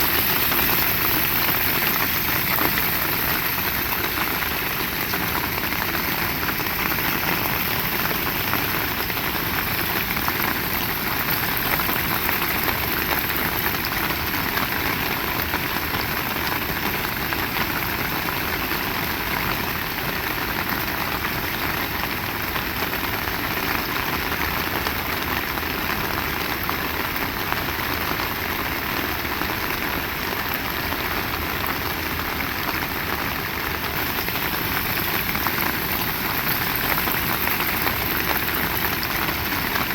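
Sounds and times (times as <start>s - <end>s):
heavy rain pouring: 0.0s - 24.4s, 25.0s - 39.9s.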